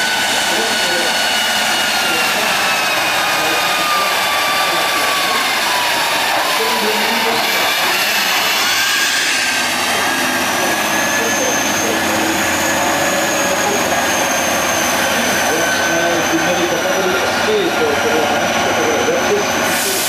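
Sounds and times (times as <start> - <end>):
high whine: 0.0 - 20.0
truck engine running: 0.0 - 20.0.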